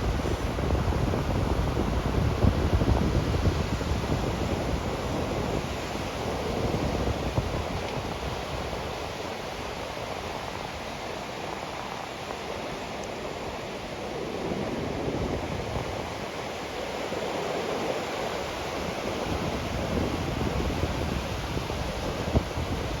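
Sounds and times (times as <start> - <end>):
waves washing onto beach: 0.0 - 23.0
wind buffeting microphone: 0.0 - 23.0.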